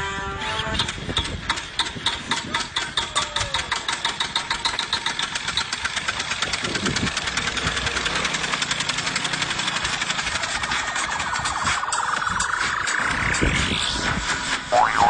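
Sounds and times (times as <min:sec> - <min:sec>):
small engine running: 0:00.8 - 0:14.6.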